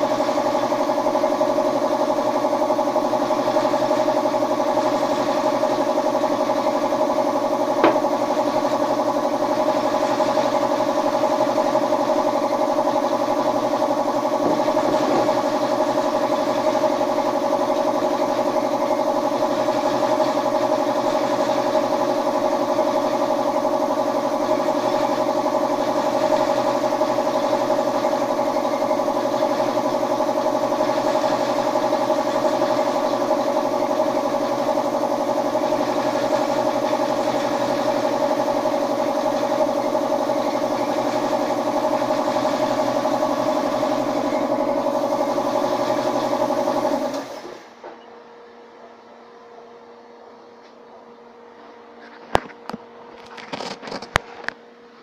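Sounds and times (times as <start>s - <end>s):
machine motor humming: 0.0s - 48.0s.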